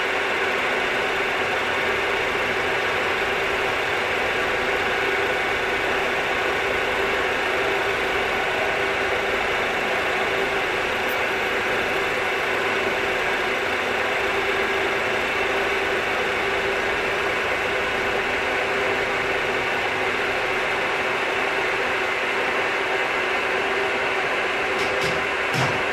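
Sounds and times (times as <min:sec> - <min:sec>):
milling machine humming: 0:00.1 - 0:25.9.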